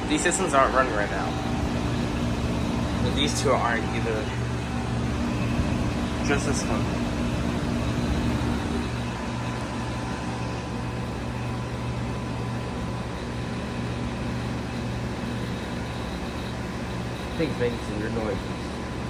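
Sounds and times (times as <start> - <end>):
heat pump humming: 0.0 - 19.0
high tones from heat pump: 0.0 - 19.0.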